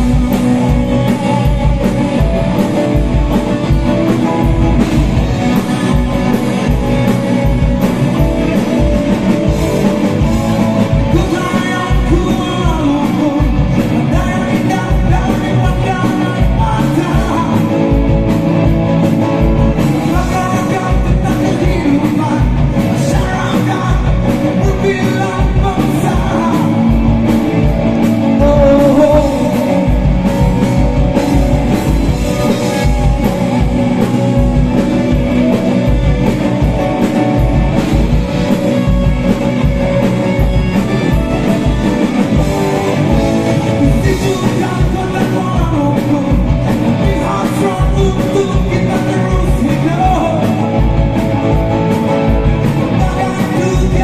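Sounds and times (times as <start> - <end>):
live rock band playing: 0.0 - 54.0
man singing: 0.0 - 54.0
steady drum beat: 0.0 - 54.0.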